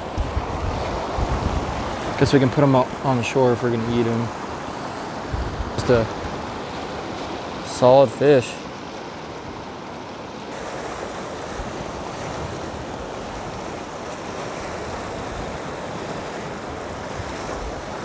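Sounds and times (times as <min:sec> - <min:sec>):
mountain stream rushing over rocks: 0:00.0 - 0:18.0.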